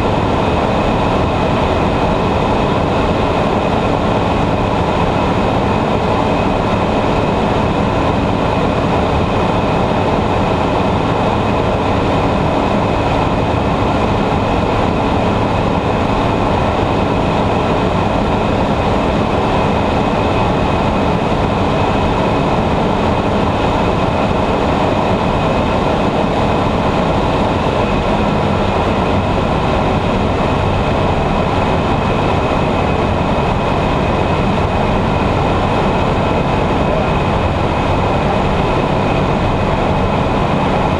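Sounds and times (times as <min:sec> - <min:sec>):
aircraft engine and propeller drone: 0:00.0 - 0:40.9.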